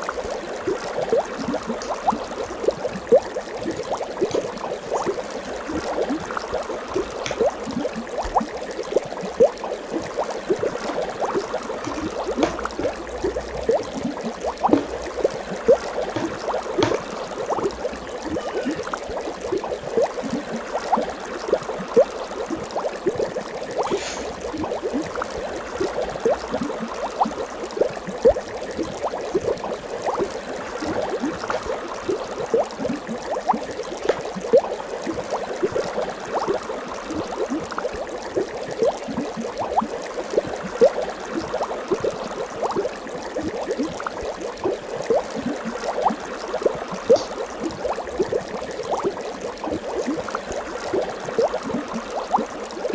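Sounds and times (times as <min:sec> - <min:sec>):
water bubbling: 0:00.0 - 0:52.9.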